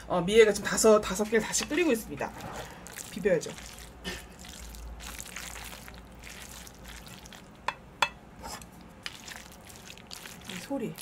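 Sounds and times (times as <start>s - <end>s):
noodles squishing and scraping: 1.1s - 7.6s, 8.4s - 11.0s.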